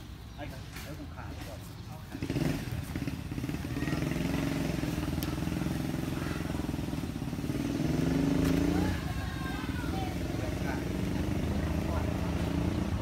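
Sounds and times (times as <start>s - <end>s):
motorcycle engine running: 2.0s - 13.0s.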